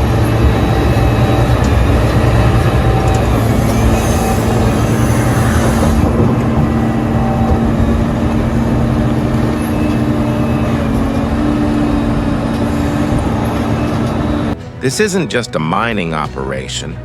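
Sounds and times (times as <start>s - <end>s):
heavy diesel machinery drone: 0.0s - 17.0s.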